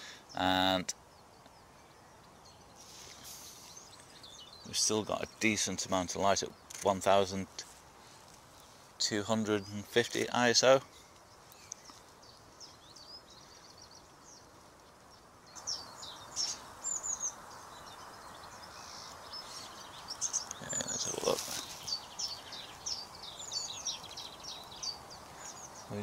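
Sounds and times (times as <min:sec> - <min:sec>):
light outdoor hiss: 0:00.0 - 0:26.0
songbirds chirping: 0:00.0 - 0:26.0.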